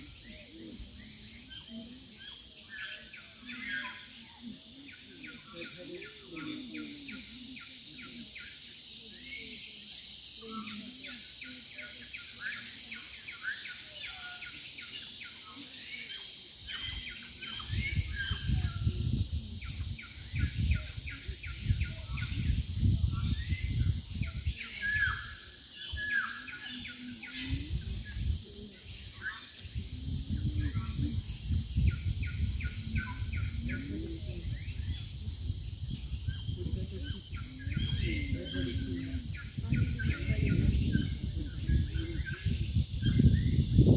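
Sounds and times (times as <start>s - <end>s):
birds chirping: 0.0s - 43.9s
steady high hiss: 0.0s - 43.9s.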